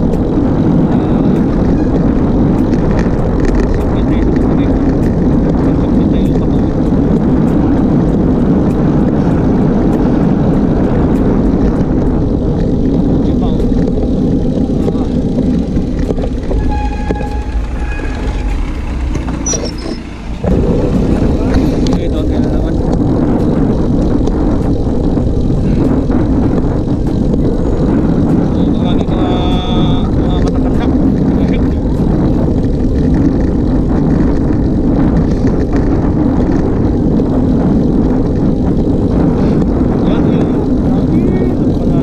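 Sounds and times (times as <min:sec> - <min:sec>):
bike rolling on road: 0:00.0 - 0:42.0
wind rumble on microphone: 0:00.0 - 0:42.0.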